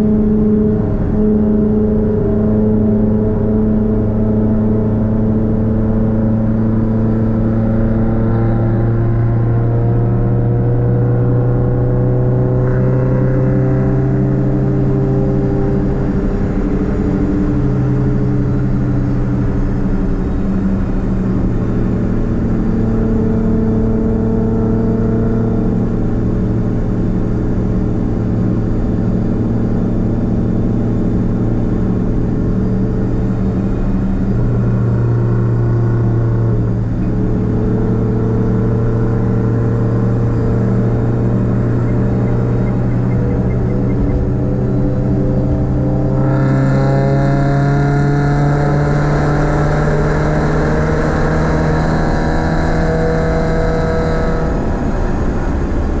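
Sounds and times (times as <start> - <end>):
car engine exhaust drone: 0.0 - 56.0.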